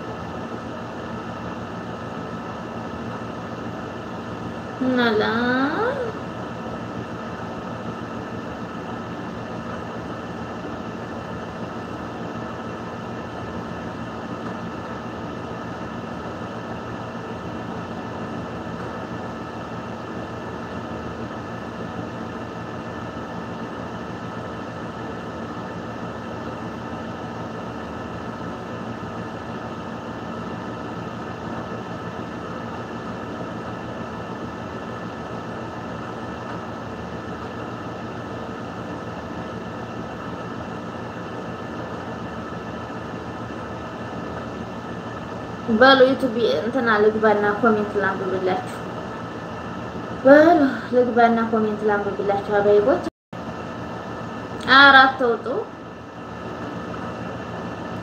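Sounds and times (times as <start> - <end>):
mechanical hum and hiss: 0.0 - 58.0.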